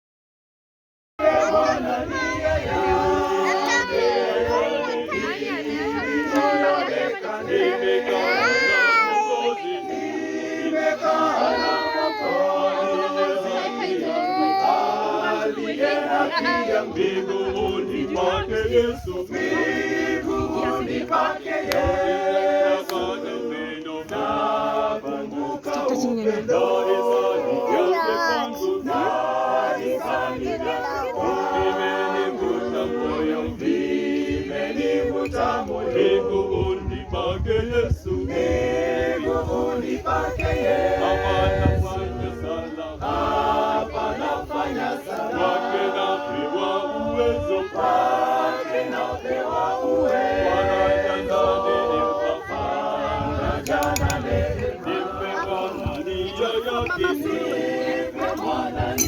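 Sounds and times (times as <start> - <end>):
choir singing a cappella: 1.2 - 59.0.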